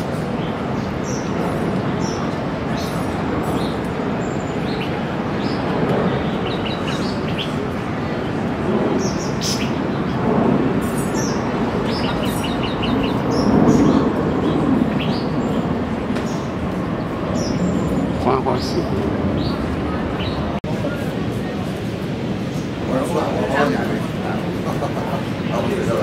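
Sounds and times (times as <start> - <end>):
birds chirping: 0.0 - 26.0
loud background din: 0.0 - 26.0.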